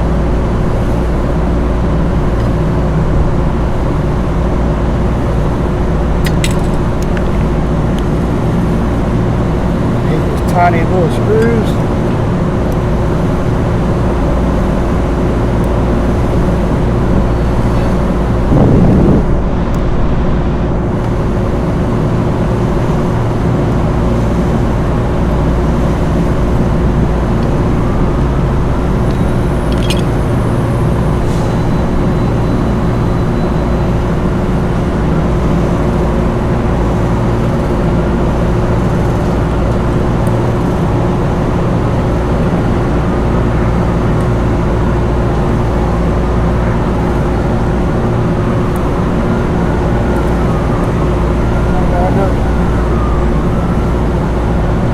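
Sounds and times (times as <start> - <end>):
low mechanical drone: 0.0 - 54.9.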